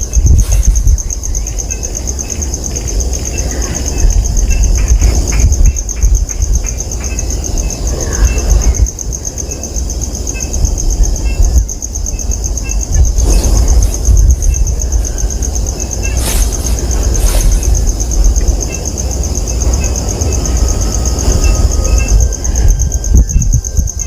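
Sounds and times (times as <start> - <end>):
heavy low rumble: 0.0 - 24.0
insects trilling: 0.0 - 24.0.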